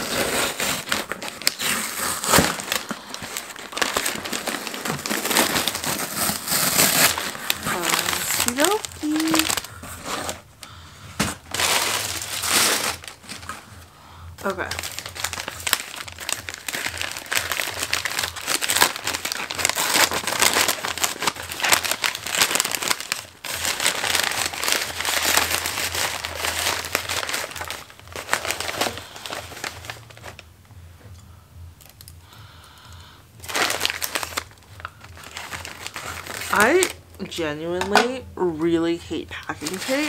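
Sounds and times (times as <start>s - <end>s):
scissors cutting wrapping: 0.0s - 10.4s, 11.2s - 13.6s, 14.5s - 30.4s, 33.4s - 36.9s, 39.6s - 40.0s
paper packaging crinkling: 0.0s - 30.5s, 33.4s - 38.1s, 38.9s - 40.0s.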